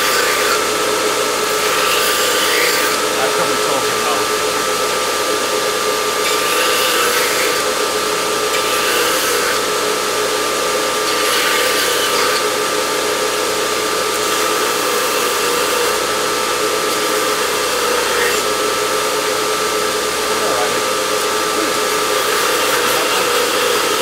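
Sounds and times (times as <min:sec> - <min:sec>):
belt grinder humming: 0:00.0 - 0:24.0
steel hissing on grinder belt: 0:00.0 - 0:24.0.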